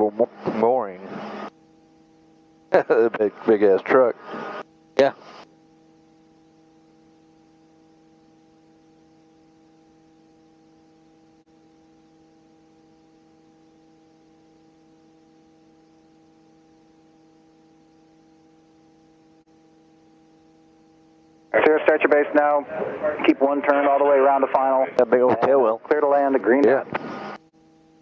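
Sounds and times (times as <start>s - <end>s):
faint steady tonal hum: 0.0s - 28.0s.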